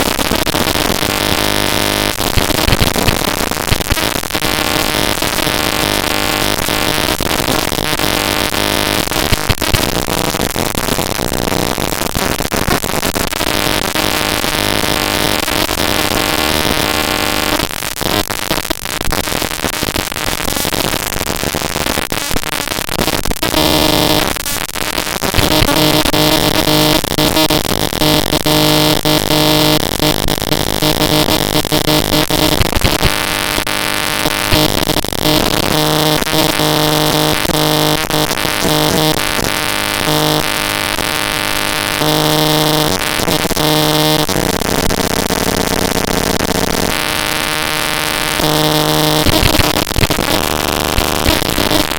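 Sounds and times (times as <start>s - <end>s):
buzzing tones: 0.0s - 51.9s
harsh glitch noise crackling and hiss: 0.0s - 51.9s.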